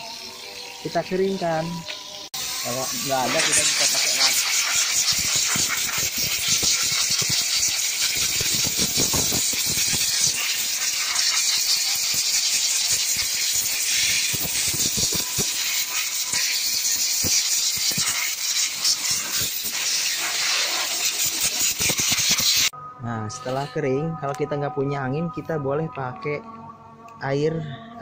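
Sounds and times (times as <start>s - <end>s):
compressed air hissing: 0.0s - 22.7s.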